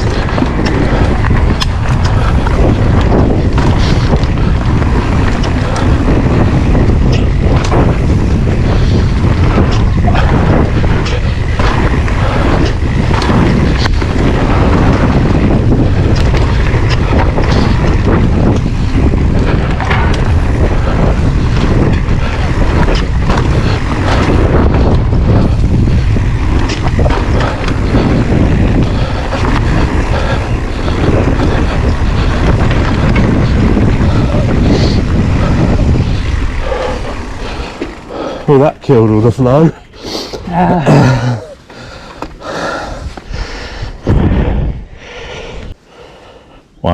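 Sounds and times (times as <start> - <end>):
bike knocks and rattles: 0.0 - 39.6
tyre rumble: 0.0 - 44.8
wind buffeting microphone: 0.0 - 46.9.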